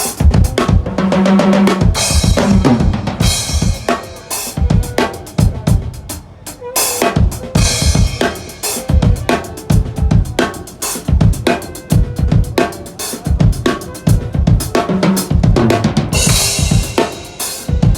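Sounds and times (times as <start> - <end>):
bass drum and snare groove: 0.0 - 6.1, 6.9 - 17.9.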